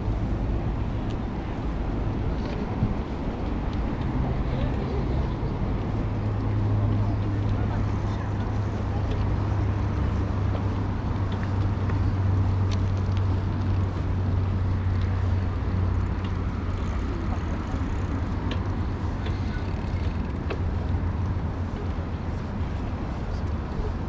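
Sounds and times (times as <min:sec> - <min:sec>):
bicycle riding noise: 0:00.0 - 0:24.0
wind rumble on microphone: 0:00.0 - 0:24.0.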